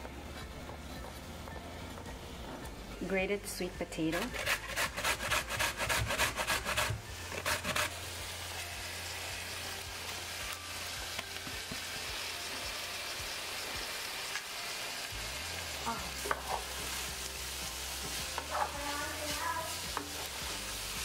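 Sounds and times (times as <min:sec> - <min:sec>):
pan sizzling: 0:03.5 - 0:21.0.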